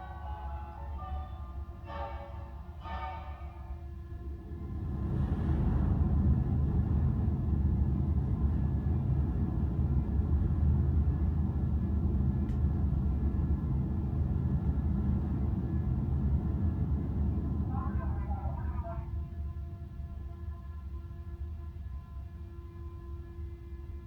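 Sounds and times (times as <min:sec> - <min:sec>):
ferry engine rumble: 0:00.0 - 0:20.4.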